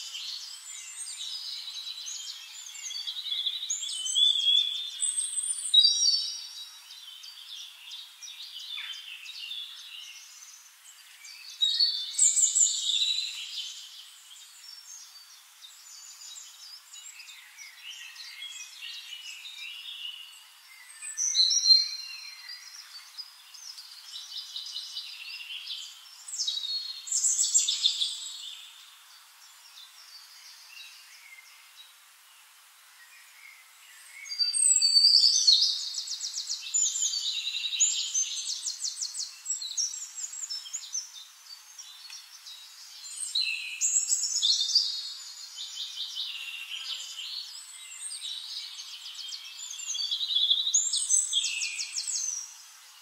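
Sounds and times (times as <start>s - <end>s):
birds singing and calling: 0.0s - 53.0s.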